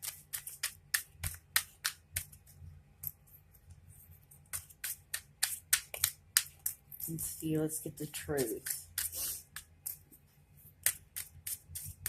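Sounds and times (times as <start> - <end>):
cards being shuffled: 0.0 - 3.2, 4.3 - 7.4, 8.3 - 12.0.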